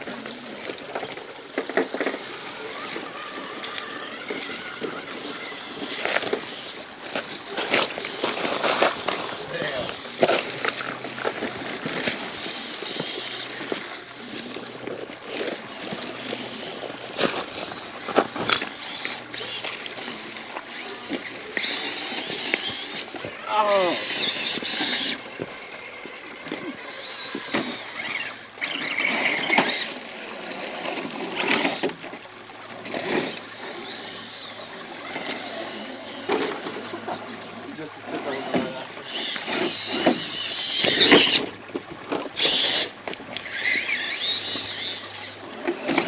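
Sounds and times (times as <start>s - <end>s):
toy truck motor whining: 0.0s - 46.0s
water trickling and splashing: 0.0s - 46.0s.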